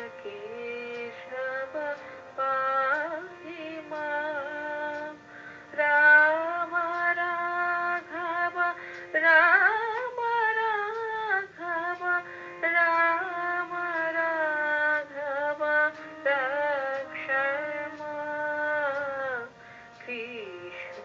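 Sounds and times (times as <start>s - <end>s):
woman singing devotional song: 0.0s - 21.0s.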